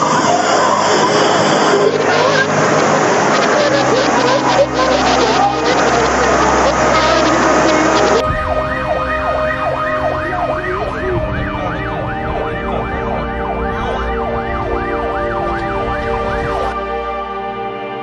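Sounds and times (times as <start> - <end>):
rushing floodwater: 0.0 - 17.0
emergency siren wailing: 0.0 - 18.0.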